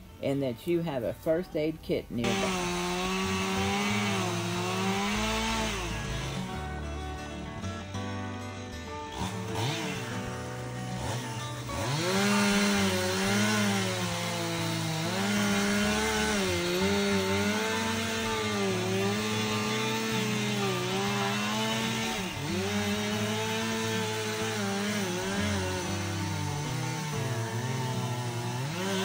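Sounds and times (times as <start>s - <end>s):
chainsaw cutting wood: 2.2s - 29.0s.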